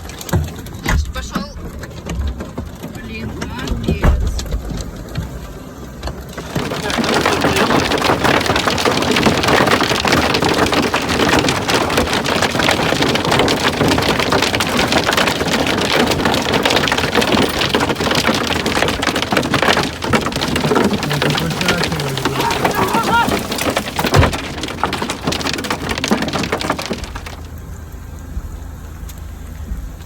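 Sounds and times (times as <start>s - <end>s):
heavy rain on hard surface: 0.0s - 30.0s.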